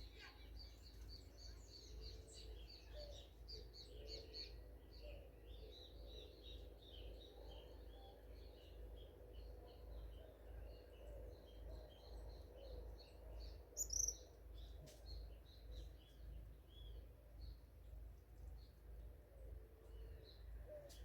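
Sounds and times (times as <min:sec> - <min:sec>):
small birds chirping: 0:00.0 - 0:19.1.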